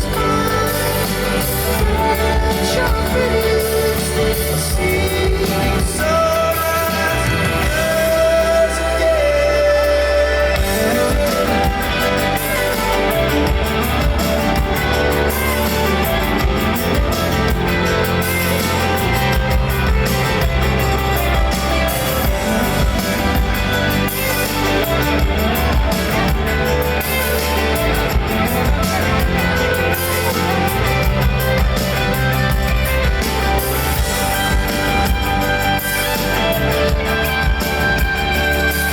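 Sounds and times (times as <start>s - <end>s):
bass and drums: 0.0s - 38.9s
live rock band playing: 0.0s - 38.9s.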